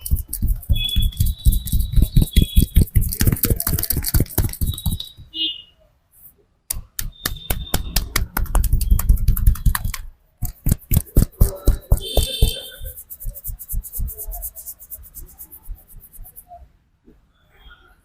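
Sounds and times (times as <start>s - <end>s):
hands slapping in massage: 0.0s - 5.2s, 6.7s - 16.3s.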